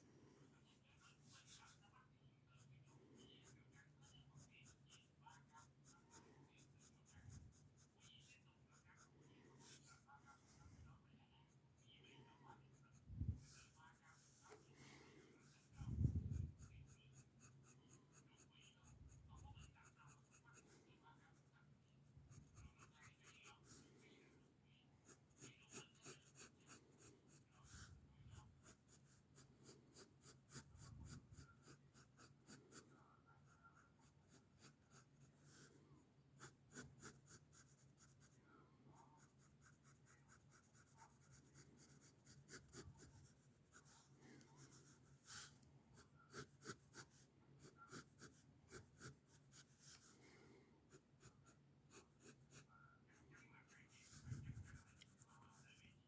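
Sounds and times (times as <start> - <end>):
pencil scratching on paper: 0.7 - 24.3, 25.0 - 56.0.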